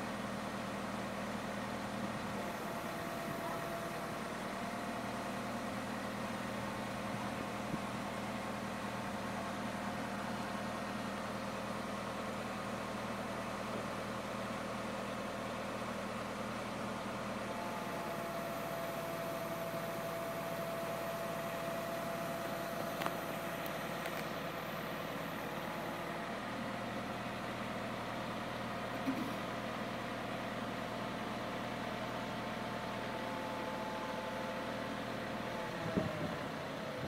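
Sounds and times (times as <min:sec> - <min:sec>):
truck engine idling: 0:00.2 - 0:37.0.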